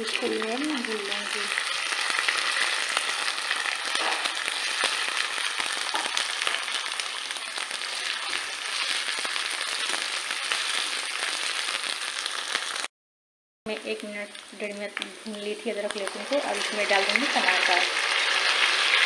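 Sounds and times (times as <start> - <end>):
dense sizzle with fine crackles: 0.0 - 12.9, 13.7 - 19.0.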